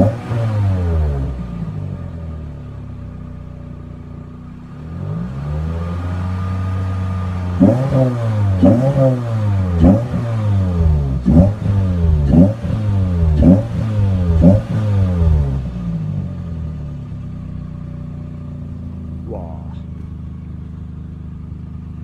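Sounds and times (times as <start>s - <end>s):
car engine revving: 0.0s - 3.1s, 3.7s - 22.0s.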